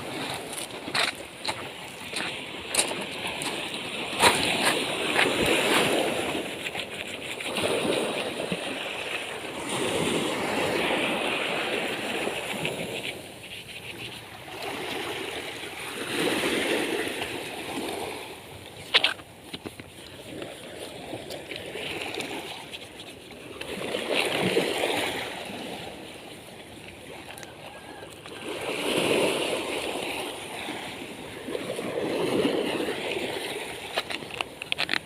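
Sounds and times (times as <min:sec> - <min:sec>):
water sloshing and splashing: 0:00.0 - 0:35.0.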